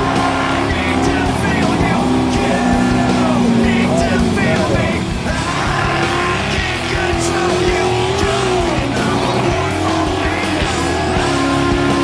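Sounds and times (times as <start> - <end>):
background music: 0.0 - 12.0
buggy engine at high revs: 0.0 - 12.0.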